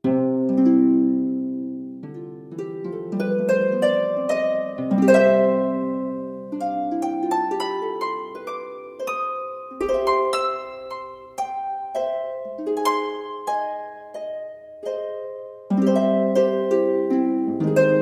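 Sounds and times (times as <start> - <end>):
plucked harp music: 0.0 - 18.0.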